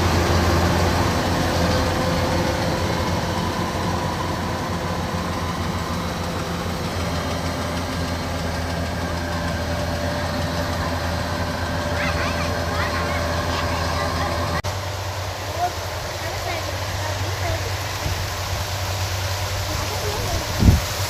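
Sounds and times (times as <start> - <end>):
combine harvester engine hum: 0.0 - 21.0.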